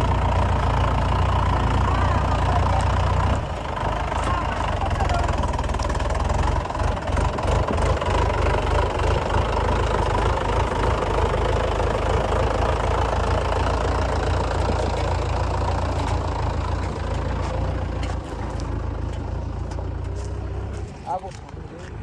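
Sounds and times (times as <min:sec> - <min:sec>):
heavy diesel engine rumbling: 0:00.0 - 0:21.4.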